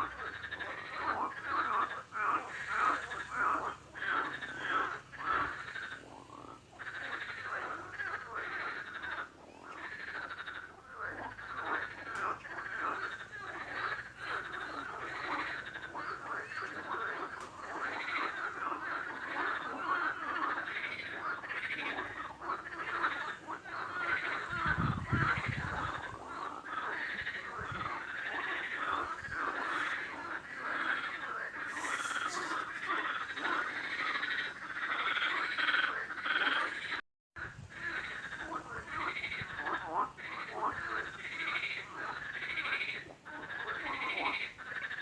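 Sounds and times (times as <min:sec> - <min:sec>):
frogs croaking: 0:00.0 - 0:45.0.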